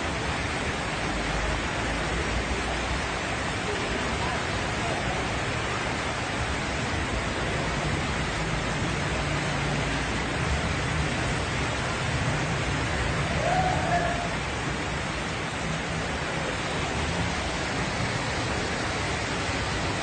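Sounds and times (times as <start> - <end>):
floodwater rushing: 0.0 - 20.0
heavy rain: 0.0 - 20.0.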